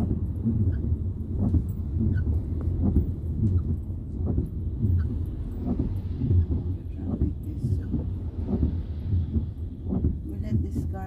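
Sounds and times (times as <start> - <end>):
car cabin rumble: 0.0 - 11.0
rain: 0.0 - 11.0.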